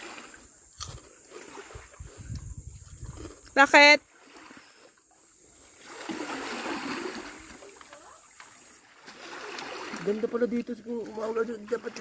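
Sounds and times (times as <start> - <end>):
seawater splashing at shore: 0.0 - 2.2, 3.0 - 12.0.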